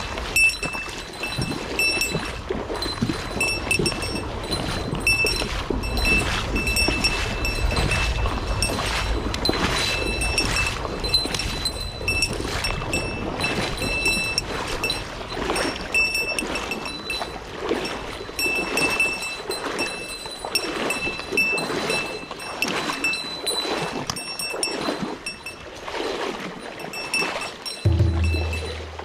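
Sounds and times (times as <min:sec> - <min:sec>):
stream water splashing: 0:00.0 - 0:29.0.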